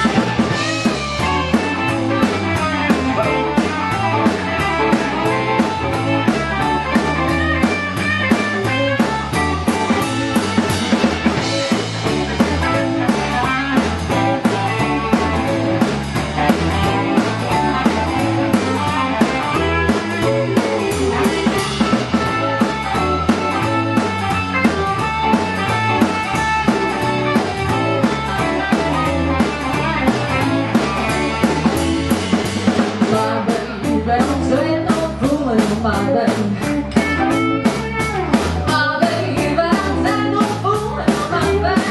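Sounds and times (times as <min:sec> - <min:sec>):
drum kit steady beat: 0:00.0 - 0:41.9
electric guitars playing blues: 0:00.0 - 0:41.9.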